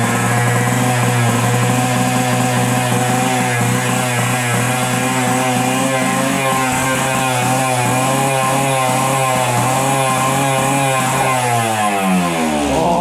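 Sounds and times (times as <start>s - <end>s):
two-stroke engine at high revs: 0.0s - 13.0s.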